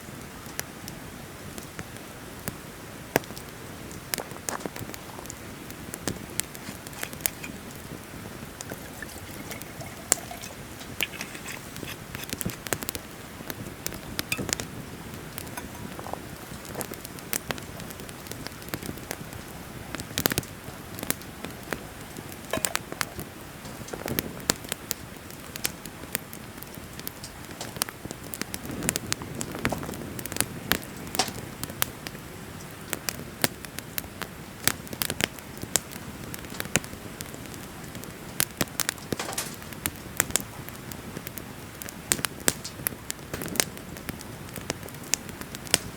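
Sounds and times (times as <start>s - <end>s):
wood bonfire crackling: 0.0s - 45.9s
sharp pops and snaps: 3.1s - 32.2s, 34.6s - 45.9s.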